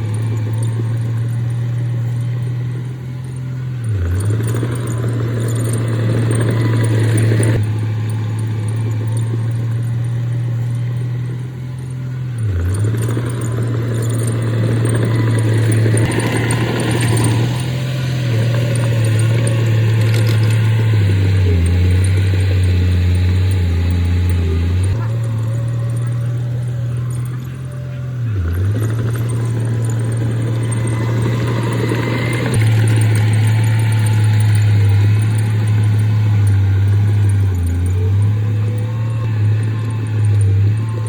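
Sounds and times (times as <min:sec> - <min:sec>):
heavy diesel engine under load: 0:00.0 - 0:41.0.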